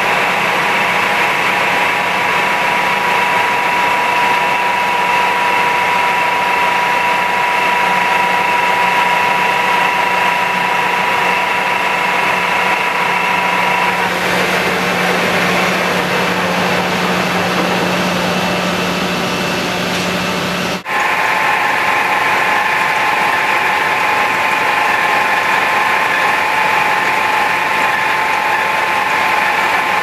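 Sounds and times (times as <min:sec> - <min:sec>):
milling machine hum with whine: 0:00.0 - 0:30.0.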